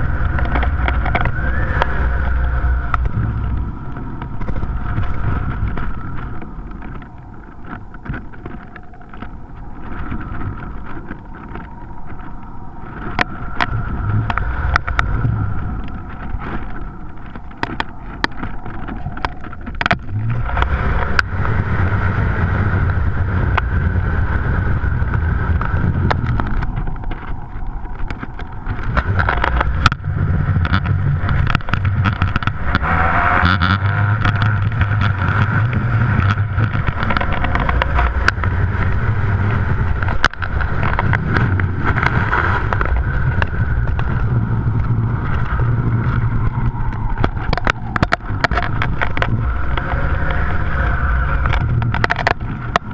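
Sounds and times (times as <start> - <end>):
wind buffeting camera: 0.0 - 52.9.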